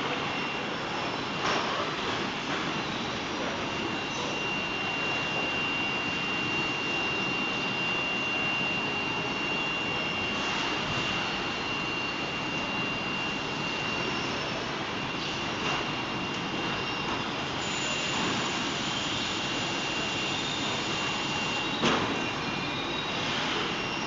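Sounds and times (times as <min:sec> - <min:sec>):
conveyor machinery rushing hiss: 0:00.0 - 0:24.0
thin high machine whine: 0:00.0 - 0:24.0.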